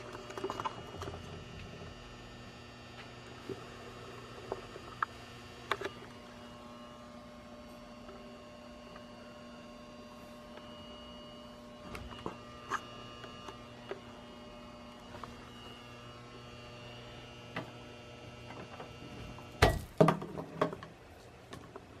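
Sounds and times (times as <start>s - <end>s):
lamp ballast humming: 0.0s - 21.8s.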